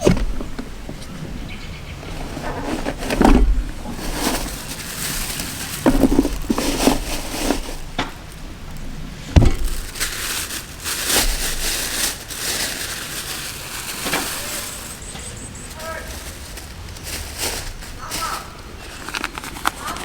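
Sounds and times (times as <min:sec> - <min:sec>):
rustling crinkling handling: 0:00.0 - 0:20.0.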